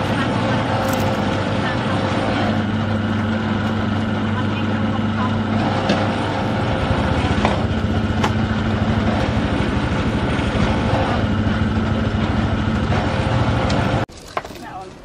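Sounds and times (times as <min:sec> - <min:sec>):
engine running: 0:00.0 - 0:14.1.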